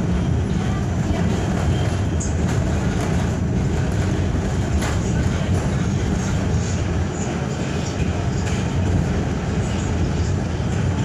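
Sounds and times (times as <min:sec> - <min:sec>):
subway car rumbling: 0:00.0 - 0:11.0.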